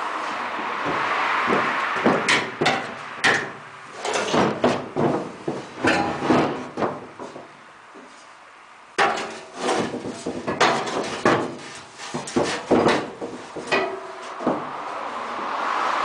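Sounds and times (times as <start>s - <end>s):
metal exhaust pipe clanking: 0.3s - 8.2s, 9.0s - 15.0s.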